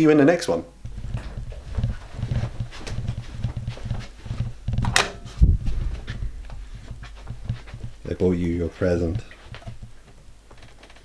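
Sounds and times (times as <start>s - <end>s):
muffled footsteps on carpet: 0.8s - 11.0s.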